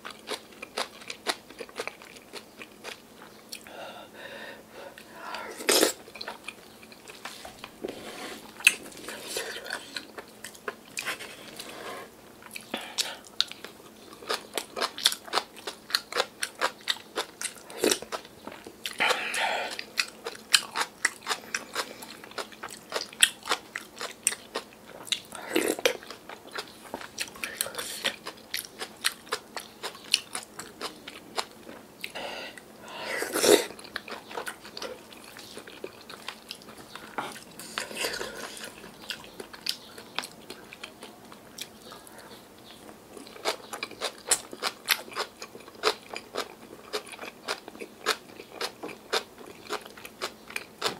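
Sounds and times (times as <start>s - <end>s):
chewing and crunching: 0.0s - 3.7s, 5.0s - 11.7s, 12.4s - 50.9s.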